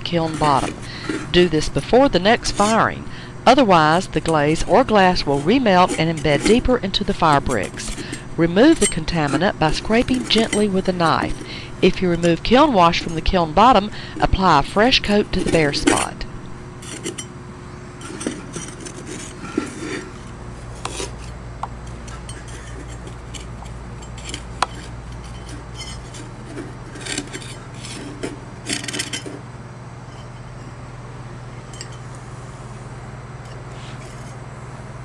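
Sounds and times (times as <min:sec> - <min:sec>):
putty knife scraping firebrick: 0:00.0 - 0:17.3, 0:18.0 - 0:29.4, 0:33.5 - 0:34.4
steady low hum: 0:00.0 - 0:35.0.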